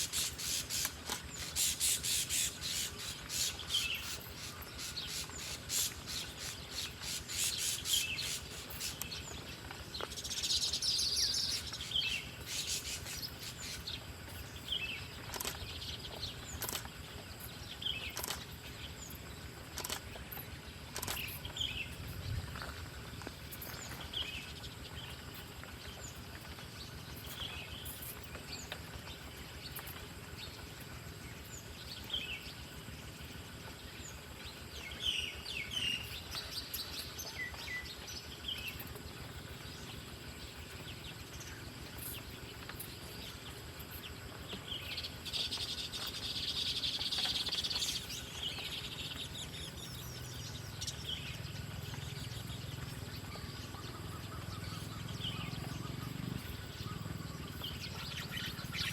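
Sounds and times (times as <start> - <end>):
birds chirping: 0.0 - 58.9
buzzy bird chatter: 0.0 - 58.9
outdoor background hiss: 0.0 - 58.9.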